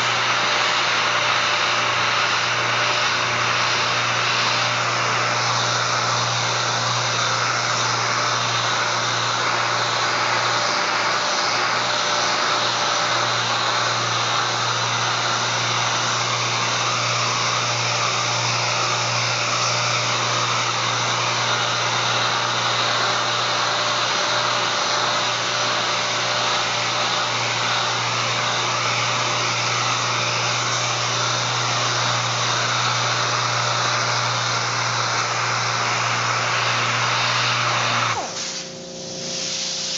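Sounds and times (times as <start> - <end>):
pneumatic orbital sander sanding: 0.0 - 39.9.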